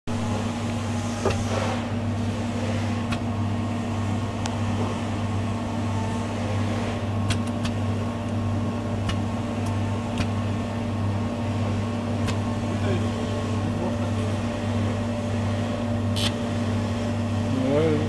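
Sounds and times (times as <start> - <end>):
electrical hum: 0.1 - 18.0.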